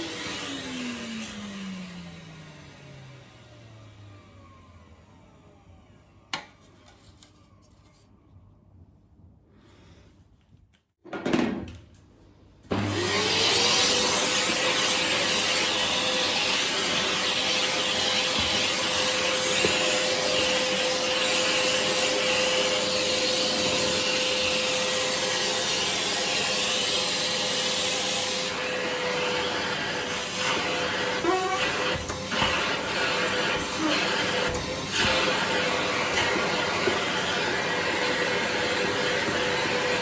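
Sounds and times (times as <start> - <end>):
vacuum cleaner motor whine: 0.0 - 7.2, 12.7 - 40.0.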